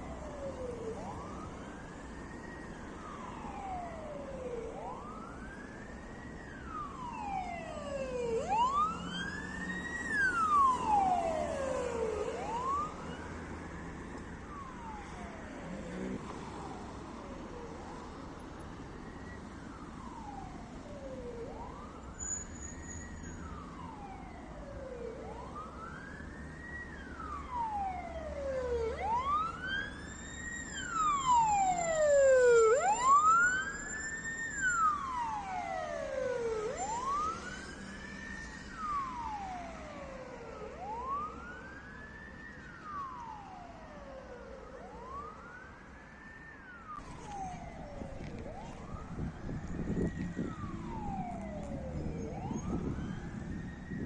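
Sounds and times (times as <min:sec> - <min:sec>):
ambulance siren wailing: 0:00.0 - 0:54.0.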